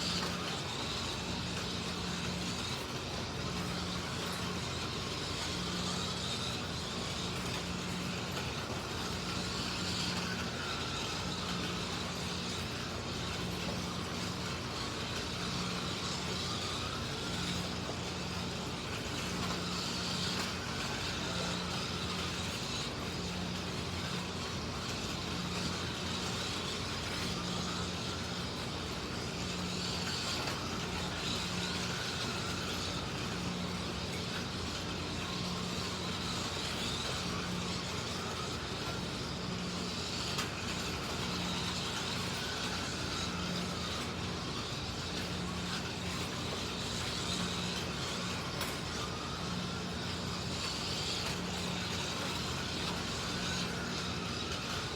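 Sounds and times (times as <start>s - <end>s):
electric motors whining: 0.0s - 54.9s.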